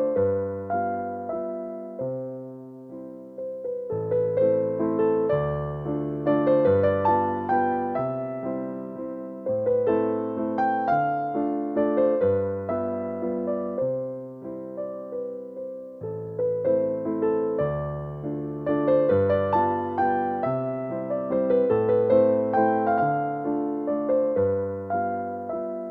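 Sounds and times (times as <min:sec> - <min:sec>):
soft piano music: 0:00.0 - 0:25.9.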